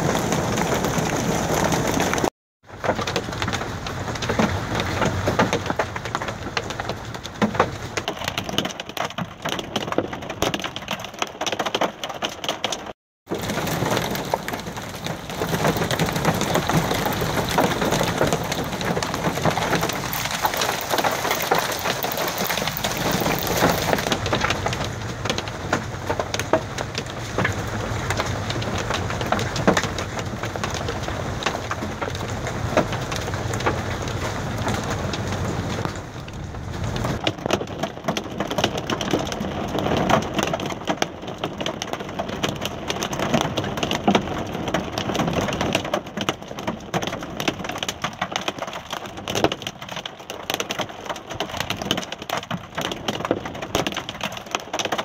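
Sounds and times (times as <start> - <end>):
hail clattering on hard surfaces: 0.0 - 55.0
rain falling: 0.0 - 55.0.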